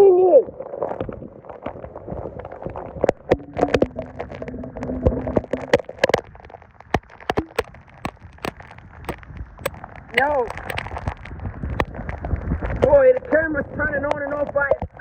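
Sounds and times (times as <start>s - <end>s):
raindrops tapping: 2.4s - 15.0s.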